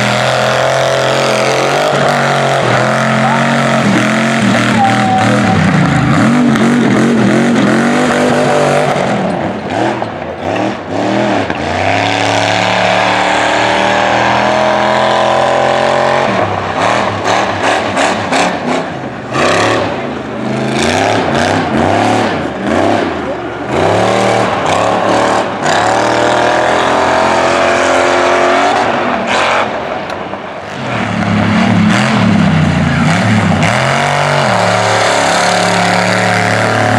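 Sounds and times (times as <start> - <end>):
truck engine revving hard: 0.0 - 36.9.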